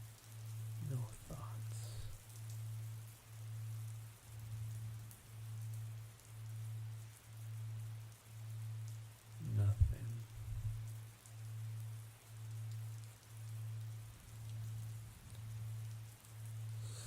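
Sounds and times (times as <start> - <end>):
low pulsing hum: 0.0 - 17.0
soft rain: 0.0 - 17.0.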